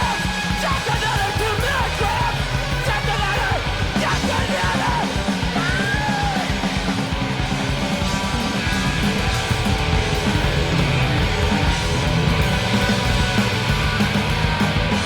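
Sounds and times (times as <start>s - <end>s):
punk rock music: 0.0s - 15.0s
shouted vocals: 0.0s - 15.0s.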